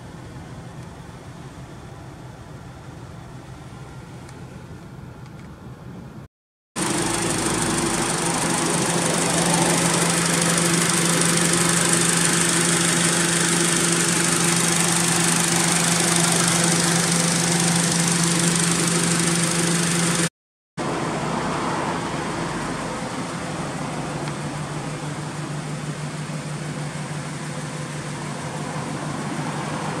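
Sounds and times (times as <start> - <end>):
car engine idling: 0.0 - 6.2, 6.8 - 30.0.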